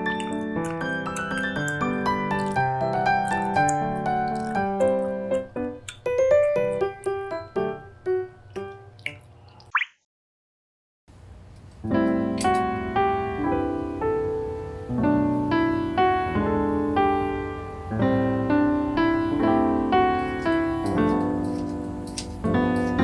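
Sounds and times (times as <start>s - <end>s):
gentle piano music: 0.0s - 9.2s, 11.8s - 23.0s.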